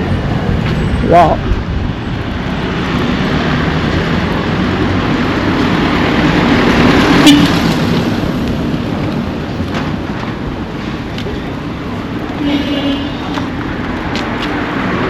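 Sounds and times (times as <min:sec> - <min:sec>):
vehicle passing by: 0:02.2 - 0:15.0.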